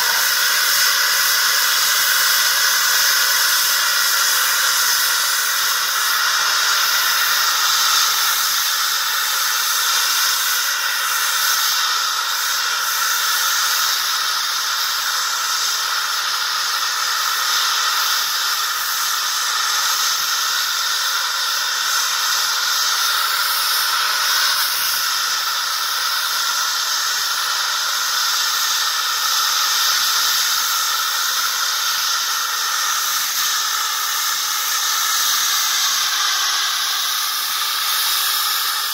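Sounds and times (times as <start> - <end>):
jet turbine hissing: 0.0 - 38.9.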